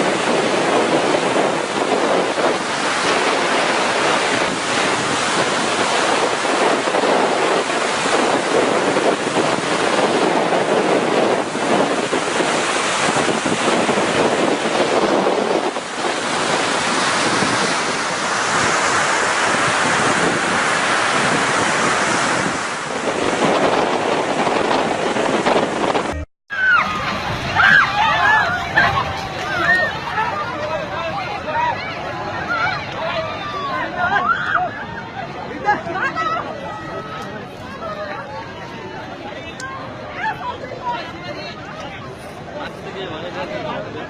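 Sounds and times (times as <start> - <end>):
floodwater rushing: 0.0 - 44.0
wind buffeting microphone: 0.0 - 44.0.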